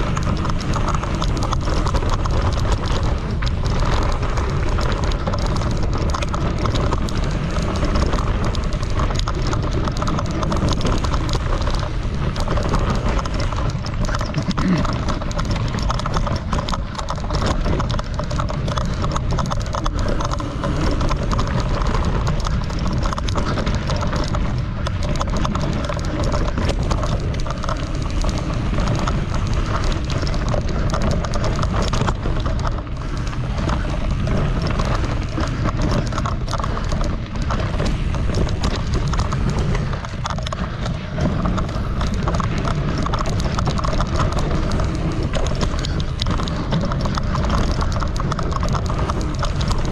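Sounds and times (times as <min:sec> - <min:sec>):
bike clattering and rattling: 0:00.0 - 0:49.9
bike tyres rumbling on gravel: 0:00.0 - 0:49.9.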